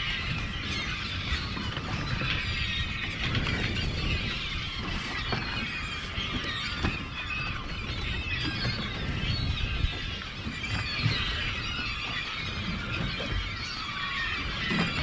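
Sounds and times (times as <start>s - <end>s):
gulls calling: 0.0s - 15.0s
wind on microphone: 0.0s - 15.0s.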